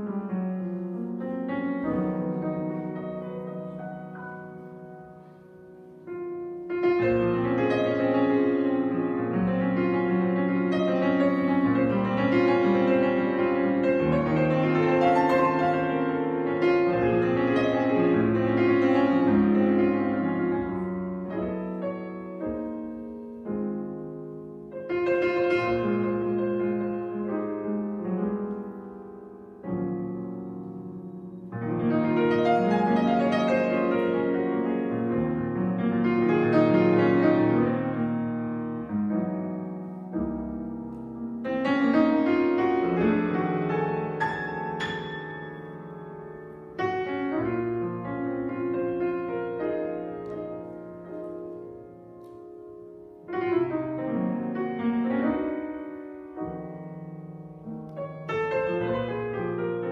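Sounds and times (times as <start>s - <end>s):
slow jazz piano ballad: 0.0s - 59.9s.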